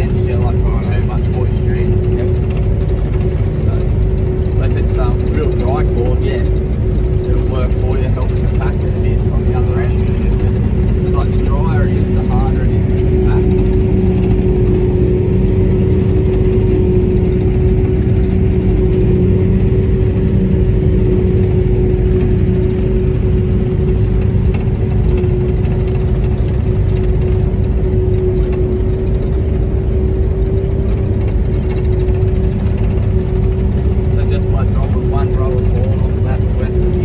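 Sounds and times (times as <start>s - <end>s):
machinery engine drone: 0.0s - 37.0s
steady machine whine: 0.0s - 37.0s.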